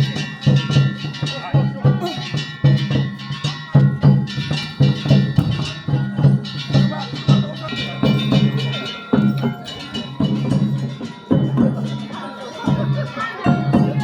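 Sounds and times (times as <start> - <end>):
drums and percussion: 0.0 - 14.0.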